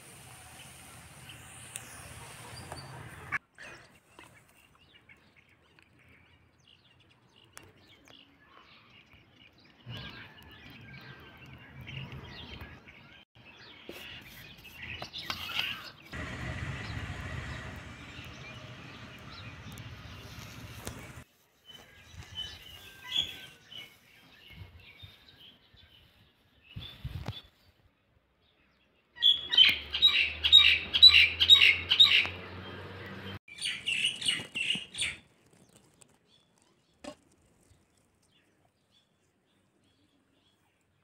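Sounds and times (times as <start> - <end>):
small birds chirping: 0.4 - 27.8, 28.4 - 41.0.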